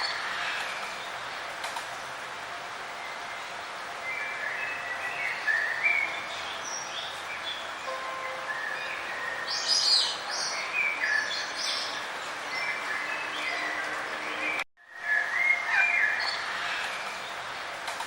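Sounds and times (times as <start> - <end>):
songbirds chirping and trilling: 0.0 - 18.0
steady background hiss: 0.0 - 18.0.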